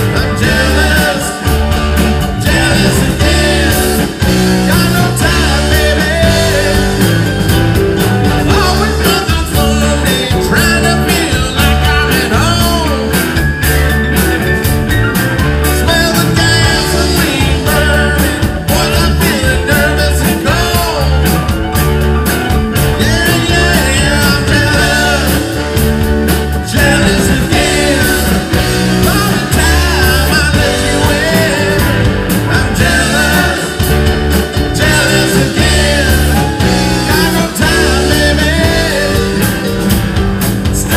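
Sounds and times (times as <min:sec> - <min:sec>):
man singing lead: 0:00.0 - 0:07.5, 0:08.2 - 0:13.7, 0:15.6 - 0:21.8, 0:22.8 - 0:40.0, 0:40.6 - 0:40.9
live rock band playing: 0:00.0 - 0:40.9.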